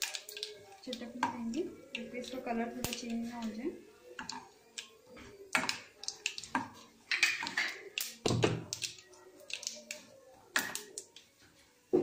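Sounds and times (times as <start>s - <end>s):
spices crackling in hot oil: 0.0s - 12.0s.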